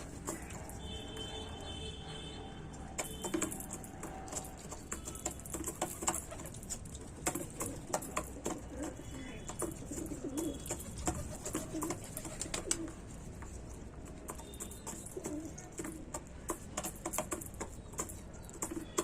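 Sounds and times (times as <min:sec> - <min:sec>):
chickens pecking beak taps: 0:00.0 - 0:00.8, 0:02.8 - 0:19.0.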